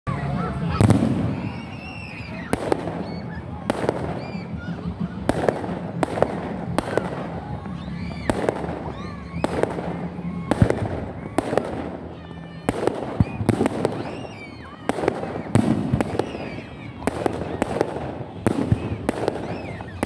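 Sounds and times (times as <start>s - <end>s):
fireworks bursting: 0.2s - 20.0s.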